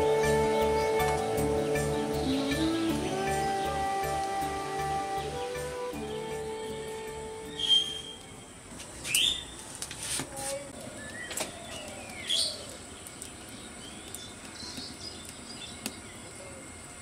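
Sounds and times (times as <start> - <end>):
birds chirping: 0.0 - 6.4, 7.4 - 9.6, 10.8 - 17.0.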